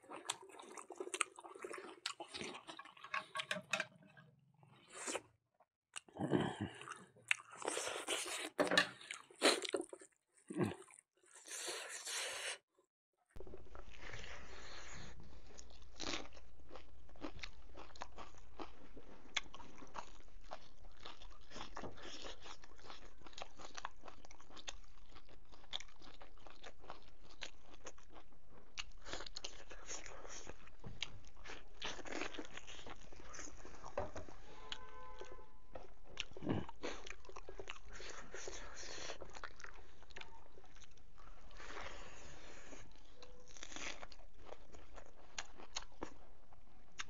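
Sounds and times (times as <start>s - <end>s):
person chewing and crunching: 0.0s - 3.8s, 6.0s - 12.6s, 13.4s - 47.0s.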